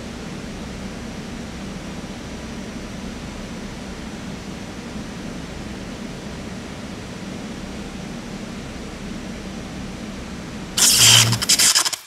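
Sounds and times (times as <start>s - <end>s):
subway train ventilation hum: 0.0s - 11.8s.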